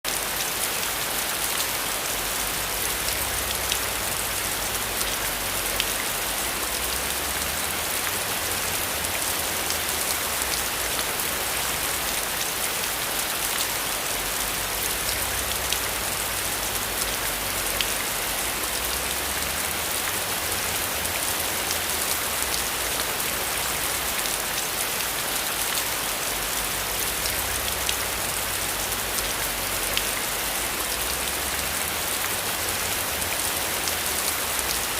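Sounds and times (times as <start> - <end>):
rain hiss: 0.1 - 34.9.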